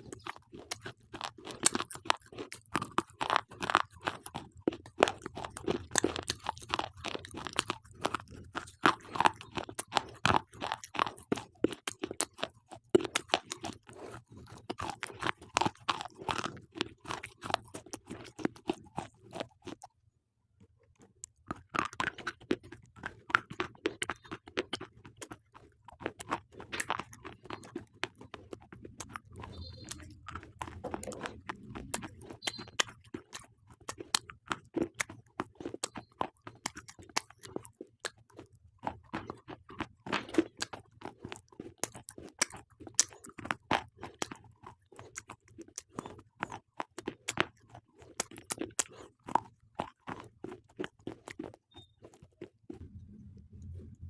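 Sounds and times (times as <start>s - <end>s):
crunching and chewing slate pencils: 0.0s - 20.0s, 20.6s - 52.8s.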